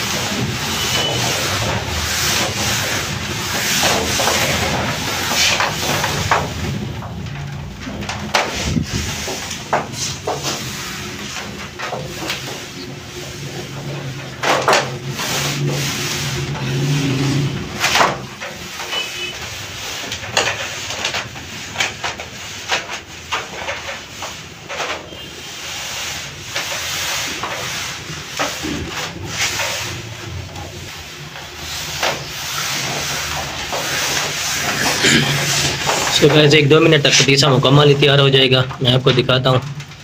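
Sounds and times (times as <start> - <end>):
dough rubbing and scraping: 0.0 - 40.0.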